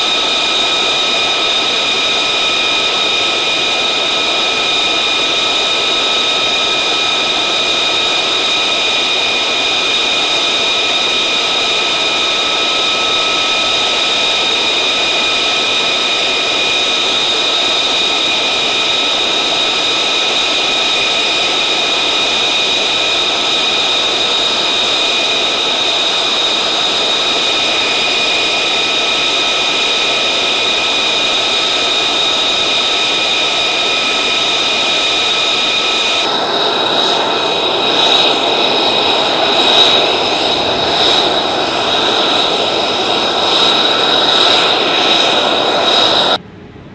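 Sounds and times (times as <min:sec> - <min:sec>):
jet engine idling whine: 0:00.0 - 0:46.9.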